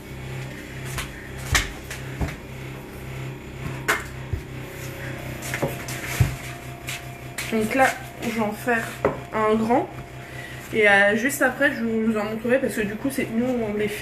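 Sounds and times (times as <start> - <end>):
rolling pin rolling dough: 0.0 - 11.5.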